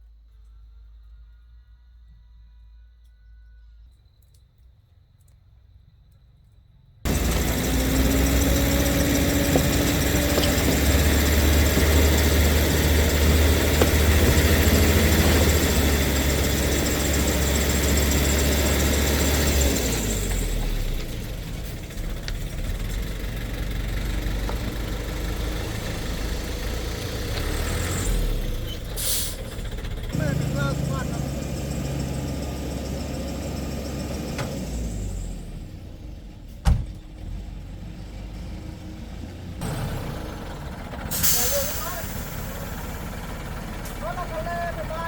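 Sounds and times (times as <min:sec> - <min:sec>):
construction machinery engine running: 0:07.0 - 0:45.0.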